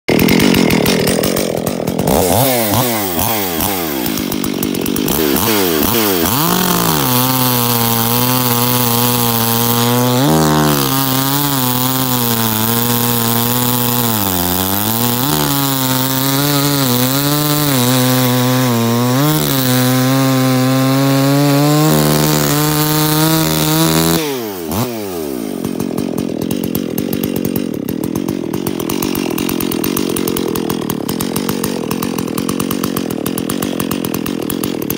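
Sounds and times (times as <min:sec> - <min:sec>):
chainsaw cutting a log: 0:00.0 - 0:34.9.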